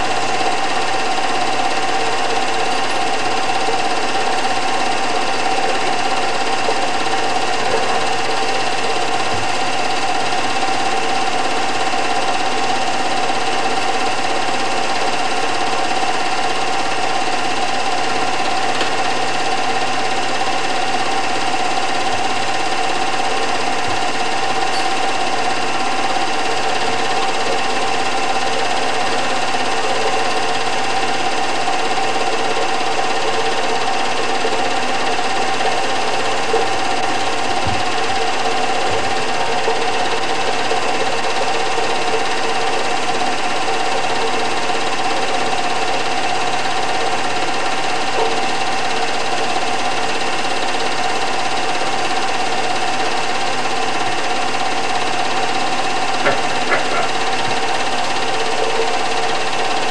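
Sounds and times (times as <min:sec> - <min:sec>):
film projector whirring and clattering: 0:00.0 - 0:59.9.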